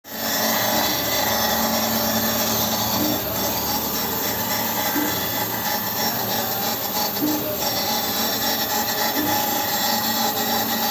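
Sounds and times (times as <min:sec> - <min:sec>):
grinding machine grinding metal: 0:00.1 - 0:10.9.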